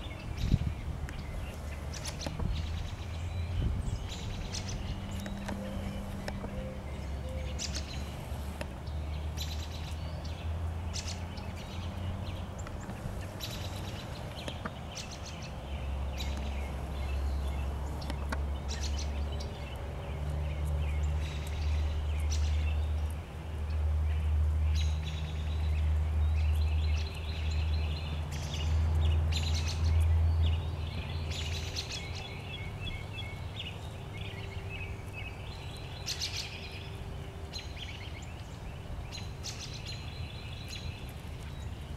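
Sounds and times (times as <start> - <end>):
low uneven rumble: 0.0 - 41.9
small birds chirping and trilling: 0.0 - 41.9.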